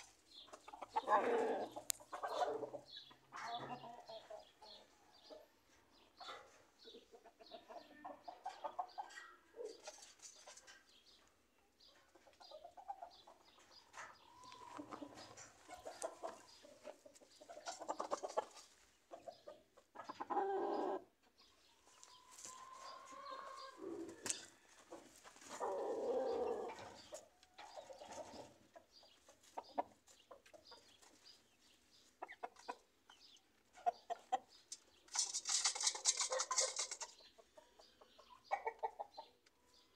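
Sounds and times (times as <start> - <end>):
roosters clucking and calling: 0.0 - 39.9.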